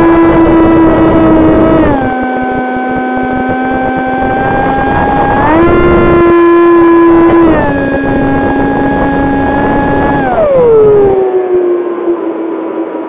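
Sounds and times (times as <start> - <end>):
wind noise rushing: 0.0 - 11.8
electric motor and propeller whining: 0.0 - 13.0.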